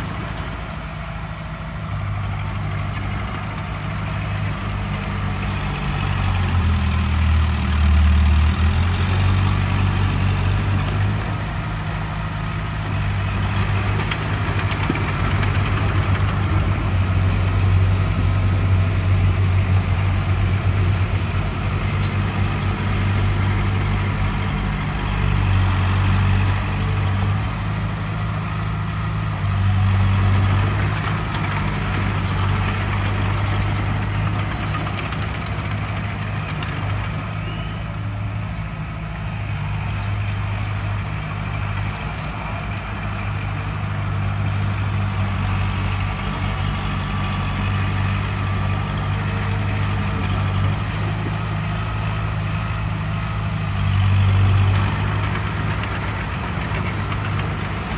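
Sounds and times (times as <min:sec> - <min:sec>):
heavy diesel engine humming: 0:00.0 - 0:57.9.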